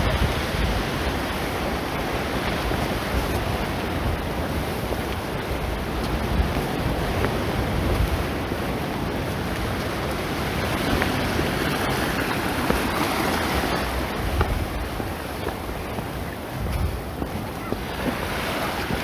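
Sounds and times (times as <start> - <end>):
sea waves washing on shore: 0.0 - 19.0
wind buffeting microphone: 0.0 - 19.0.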